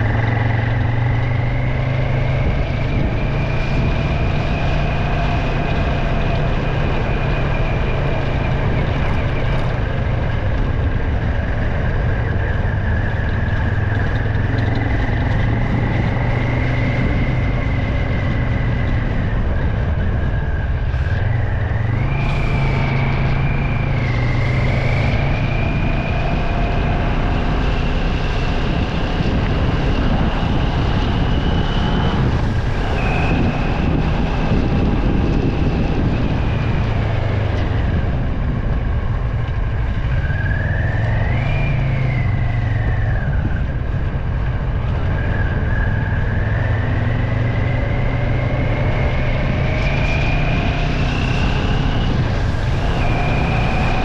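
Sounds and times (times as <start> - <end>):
high whine rising and falling: 0.0 - 54.0
vehicle engine noise: 0.0 - 54.0.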